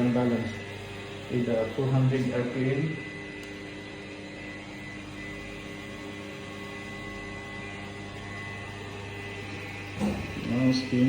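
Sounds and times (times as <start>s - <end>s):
balancing machine spinning hum: 0.0s - 11.0s.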